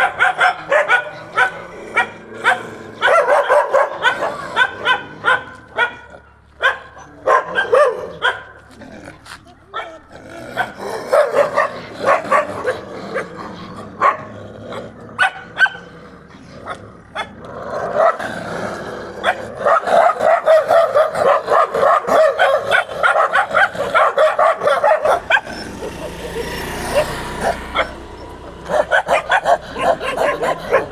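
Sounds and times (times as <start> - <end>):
dog barking: 0.0 - 8.7, 10.6 - 13.4, 14.0 - 15.9, 17.1 - 18.2, 19.2 - 30.9.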